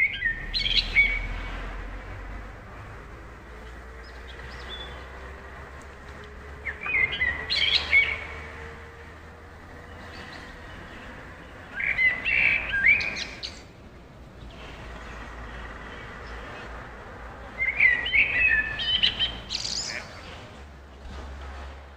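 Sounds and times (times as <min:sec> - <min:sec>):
songbirds chirping and trilling: 0:00.0 - 0:21.9.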